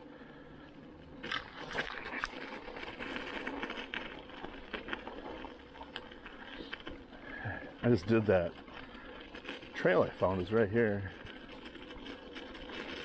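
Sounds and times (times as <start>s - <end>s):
bike tyres crunching on gravel: 0.0s - 13.0s
faint steady hum: 0.0s - 13.0s
bike clicks and rattles: 1.1s - 13.0s.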